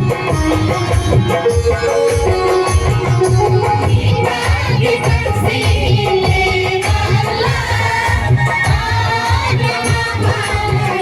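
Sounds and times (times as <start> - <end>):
folk music: 0.0 - 11.0
loud drum beat: 0.0 - 11.0.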